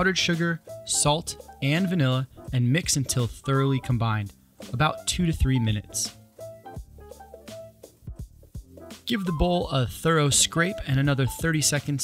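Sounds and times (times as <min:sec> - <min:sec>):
soft melodic background music: 0:00.0 - 0:12.0.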